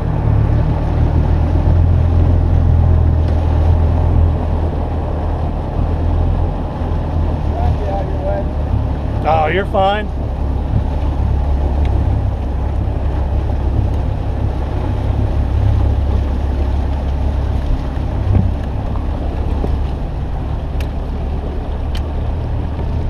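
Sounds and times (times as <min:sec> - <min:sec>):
outboard motor running: 0:00.0 - 0:23.0
wind buffeting microphone: 0:00.0 - 0:23.0.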